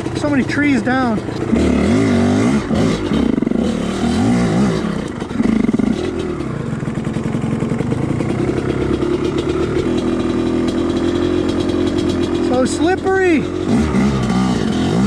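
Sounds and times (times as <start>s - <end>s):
two-stroke dirt bike engine revving: 0.0s - 15.0s.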